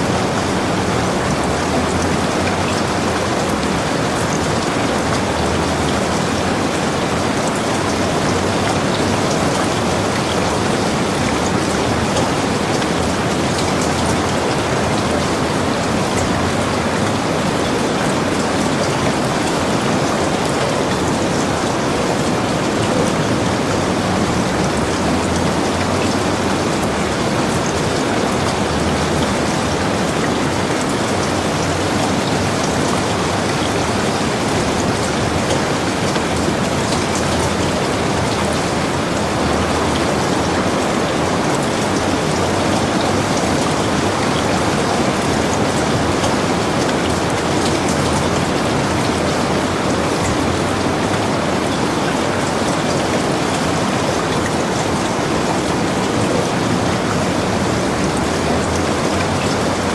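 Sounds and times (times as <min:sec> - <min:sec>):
heavy rain on a cabin: 0:00.0 - 0:59.9.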